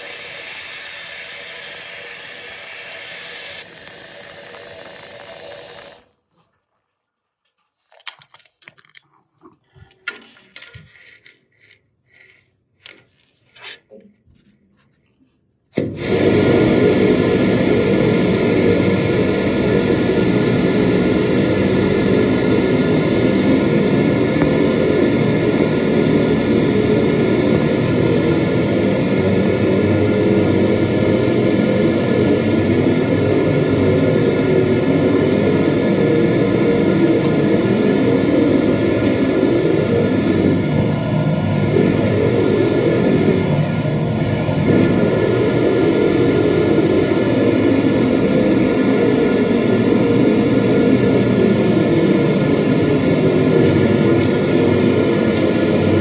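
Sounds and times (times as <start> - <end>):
high-pressure drain jetting washer: 0.0 - 6.1, 15.8 - 56.0.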